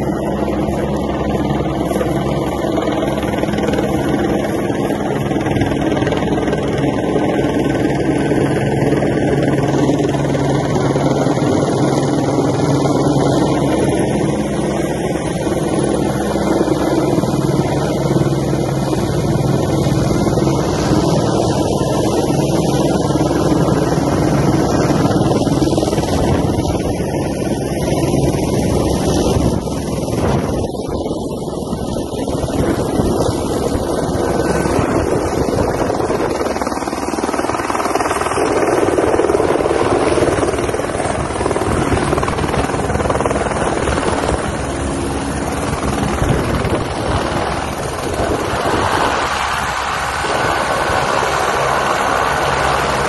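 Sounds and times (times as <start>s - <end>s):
helicopter hovering: 0.0s - 53.0s.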